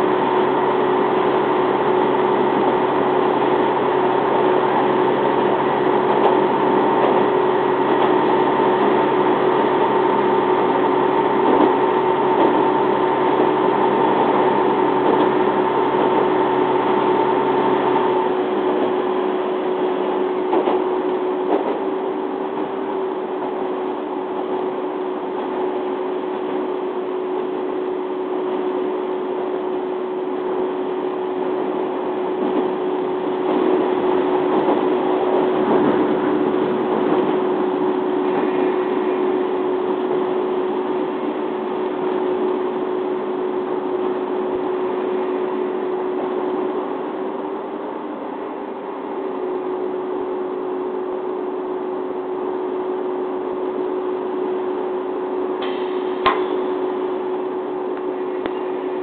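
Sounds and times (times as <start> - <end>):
railcar engine drone: 0.0 - 59.0.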